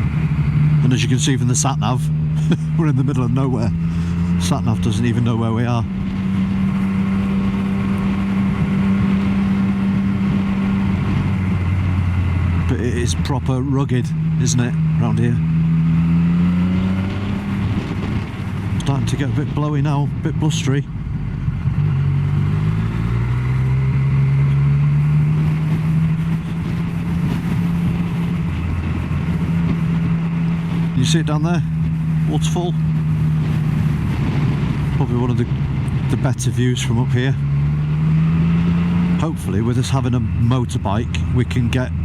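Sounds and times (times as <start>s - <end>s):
motorcycle engine running: 0.0s - 42.0s
wind rush: 0.0s - 42.0s.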